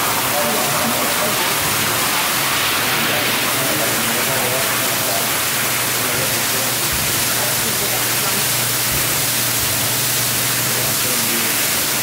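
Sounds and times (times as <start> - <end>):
pressure washer spraying rug: 0.0 - 12.0.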